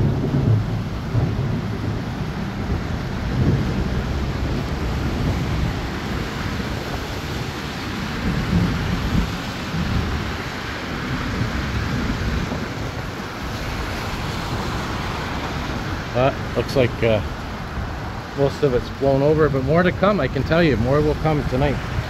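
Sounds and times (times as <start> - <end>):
heavy rain hissing: 0.0 - 22.0
low thunder rumble: 0.0 - 22.0.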